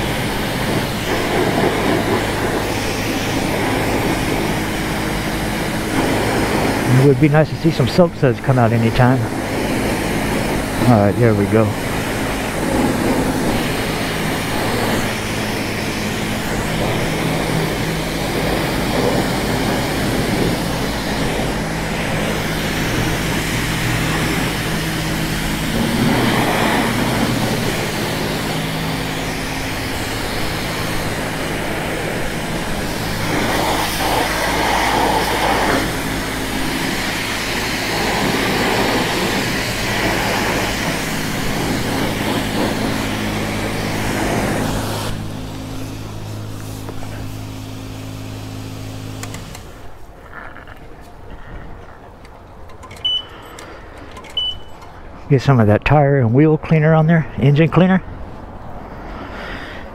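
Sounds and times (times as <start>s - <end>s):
pressure washer spraying water: 0.0s - 50.3s
steady machine hum: 0.0s - 59.9s.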